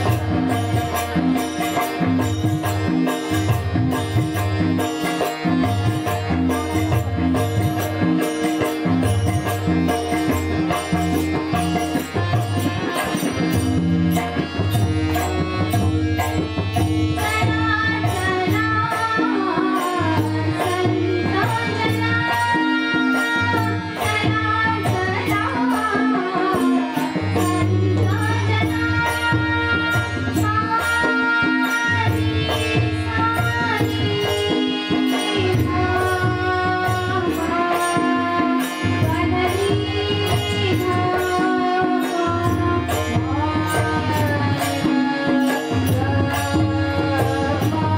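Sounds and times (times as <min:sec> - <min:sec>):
tabla: 0:00.0 - 0:47.9.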